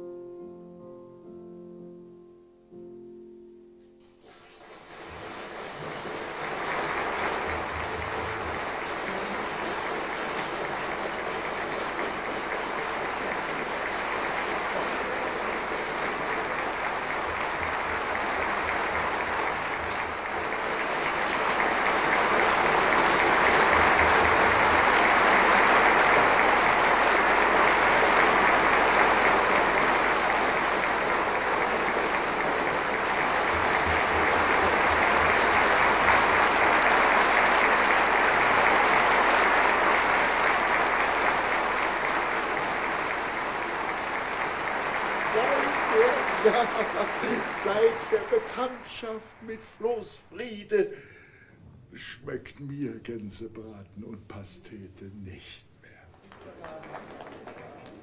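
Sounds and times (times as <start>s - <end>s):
audience applauding: 4.2s - 51.4s, 55.8s - 58.0s.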